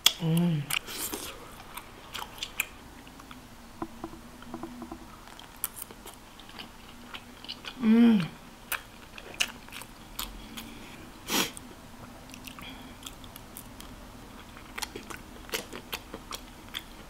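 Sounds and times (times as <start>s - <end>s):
person chewing food: 0.0s - 3.4s, 5.1s - 17.0s.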